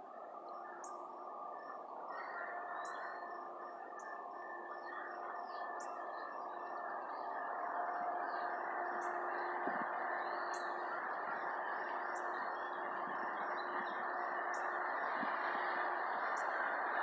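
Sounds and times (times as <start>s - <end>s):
songbirds chirping: 0.0s - 17.0s
steady hum: 0.0s - 17.0s.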